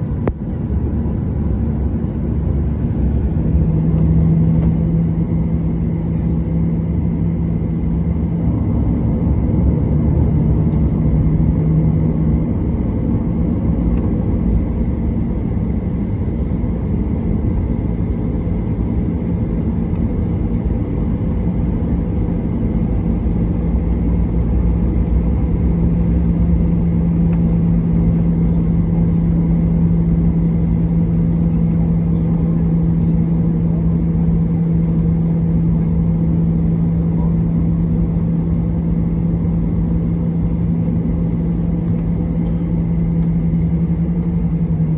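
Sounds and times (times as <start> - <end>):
jet engines humming in cabin: 0.0 - 44.9.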